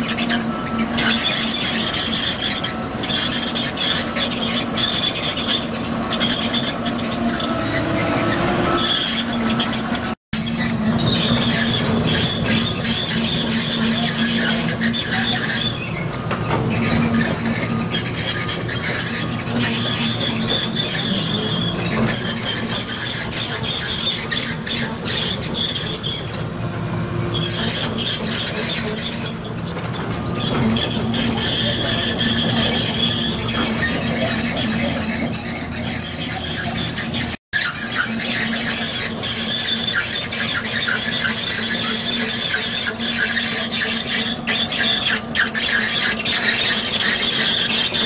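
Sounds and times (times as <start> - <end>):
diesel excavator engine running: 0.0 - 48.0
high-pitched metallic squeal: 0.0 - 48.0.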